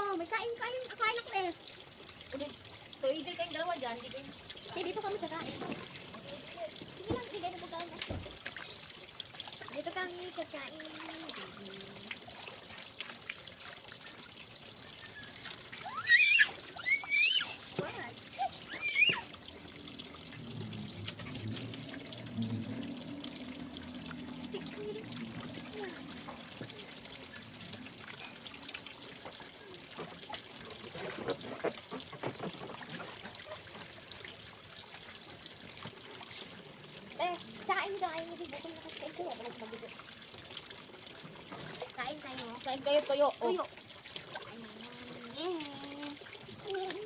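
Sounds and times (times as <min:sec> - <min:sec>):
water trickling: 0:00.0 - 0:47.0.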